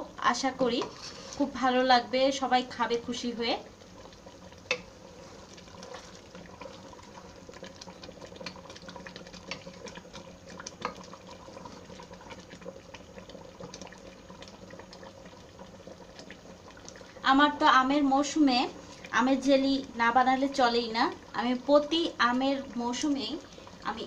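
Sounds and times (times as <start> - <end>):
syrup bubbling at a boil: 0.0 - 24.0.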